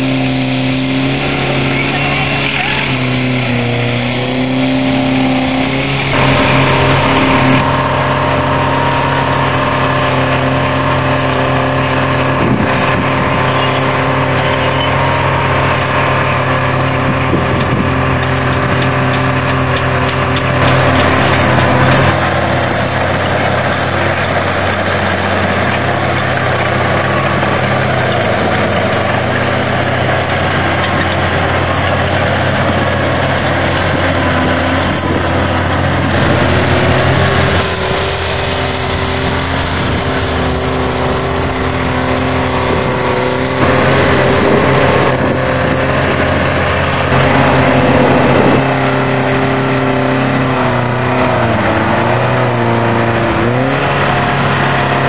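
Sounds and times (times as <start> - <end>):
earthmoving machines working: 0.0 - 53.0
tractor engine under load: 0.0 - 55.0.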